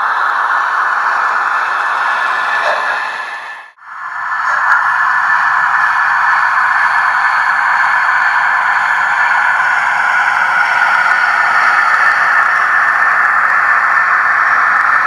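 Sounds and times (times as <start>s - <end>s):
model locomotive running hiss: 0.0s - 15.0s.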